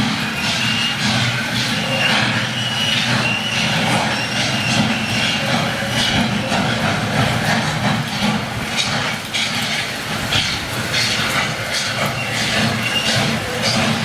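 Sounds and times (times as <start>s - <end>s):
rhythmic hissing bursts: 0.0s - 14.0s
train rumbling: 0.0s - 14.0s.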